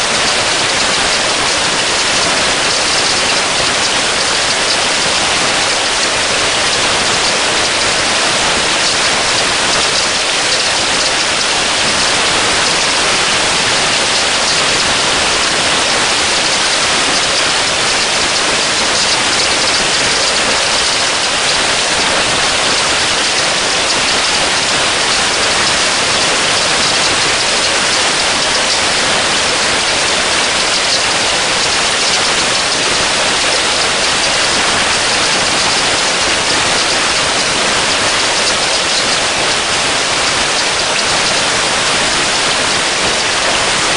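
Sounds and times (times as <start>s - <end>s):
heavy rain on a pond: 0.0s - 43.9s.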